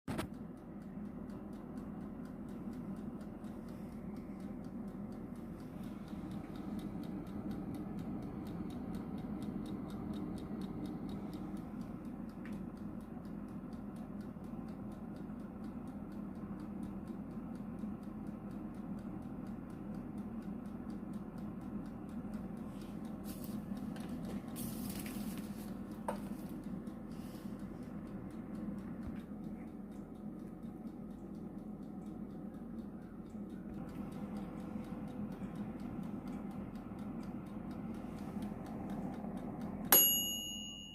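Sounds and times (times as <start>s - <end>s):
click: 0.1s - 40.0s
air fryer fan hum: 0.1s - 40.9s.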